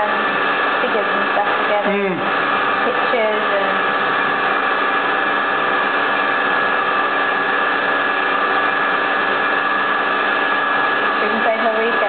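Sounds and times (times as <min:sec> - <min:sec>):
milling spindle whine: 0:00.0 - 0:12.0.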